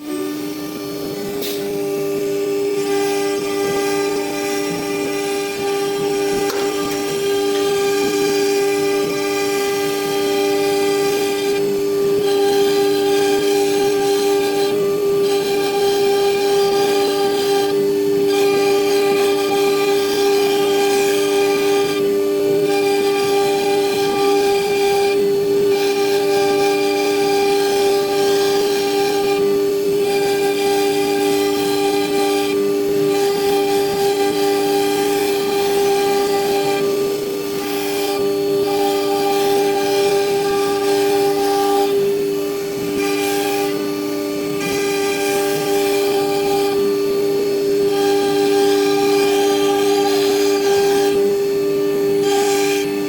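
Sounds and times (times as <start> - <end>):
router spindle high whine: 0.0 - 53.0.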